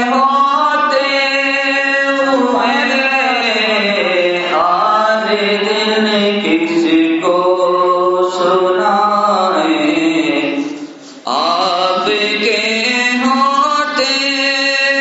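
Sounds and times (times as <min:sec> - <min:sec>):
person singing devotional song: 0:00.0 - 0:15.0.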